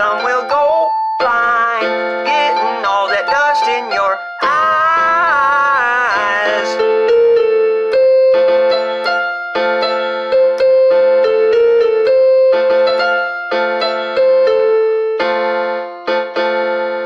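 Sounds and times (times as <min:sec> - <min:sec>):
piano-like keyboard chords: 0:00.0 - 0:17.0.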